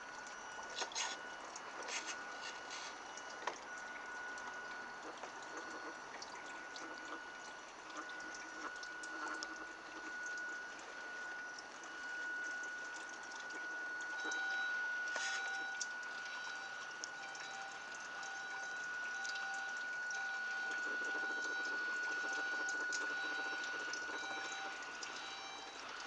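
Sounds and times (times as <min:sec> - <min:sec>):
water churning and trickling: 0:00.0 - 0:26.0.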